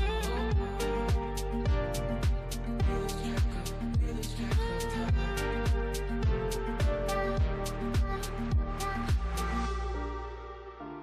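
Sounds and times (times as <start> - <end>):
deep kick drum: 0.0 - 9.4.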